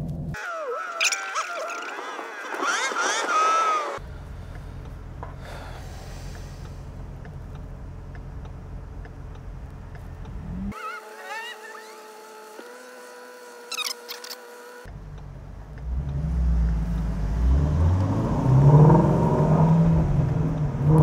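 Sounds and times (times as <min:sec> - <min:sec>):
car engine drone inside cabin: 0:00.0 - 0:00.8, 0:01.7 - 0:11.1, 0:13.6 - 0:21.0.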